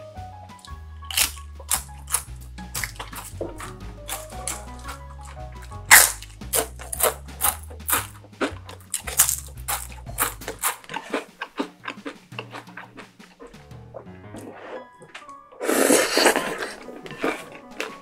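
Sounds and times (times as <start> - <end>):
background music: 0.0 - 18.0
crunching and chewing chips: 0.6 - 13.6, 14.4 - 18.0.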